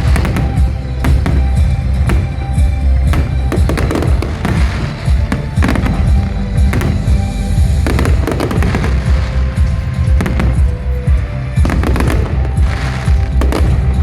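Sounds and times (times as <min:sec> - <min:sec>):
fireworks bursting: 0:00.0 - 0:14.0
loud music with heavy bass: 0:00.0 - 0:14.0.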